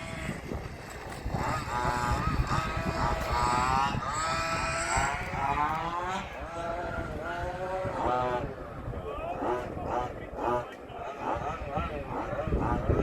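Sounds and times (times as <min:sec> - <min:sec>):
small engines revving: 0:00.0 - 0:13.0
wind on microphone: 0:00.0 - 0:13.0.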